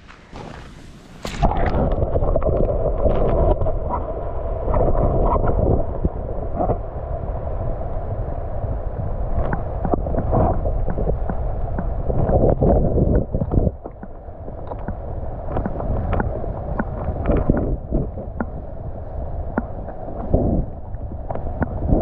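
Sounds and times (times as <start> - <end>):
muffled underwater rumble and slosh: 0.0 - 22.0.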